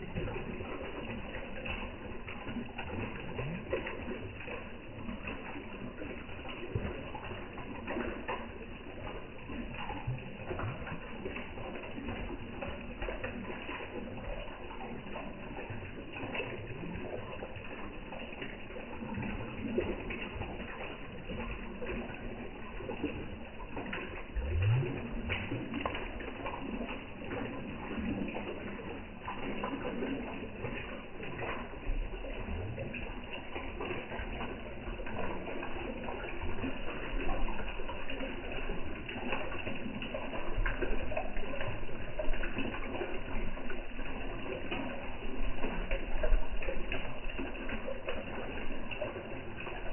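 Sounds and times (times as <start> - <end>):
fish splashing at water surface: 0.0 - 49.9.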